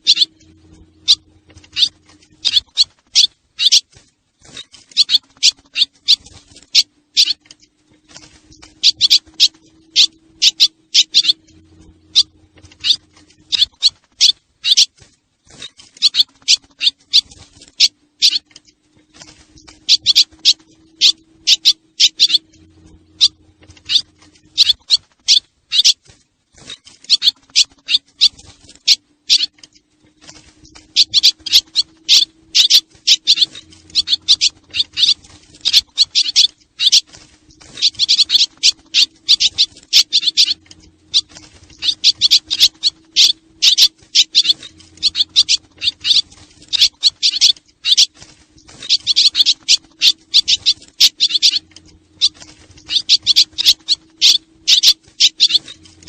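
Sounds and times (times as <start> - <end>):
faint steady hum: 0.0 - 56.0
swallows twittering: 0.0 - 56.0.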